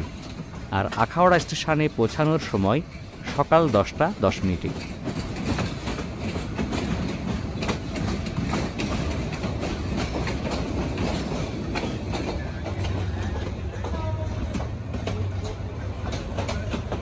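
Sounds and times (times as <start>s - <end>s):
train rumbling on track: 0.0s - 17.0s
wheels clacking over rails: 0.0s - 17.0s.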